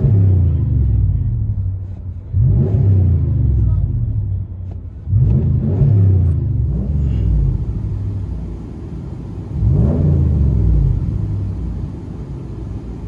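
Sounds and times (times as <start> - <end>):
engine revving: 0.0 - 4.4, 5.0 - 13.0
engine idling: 0.0 - 13.0.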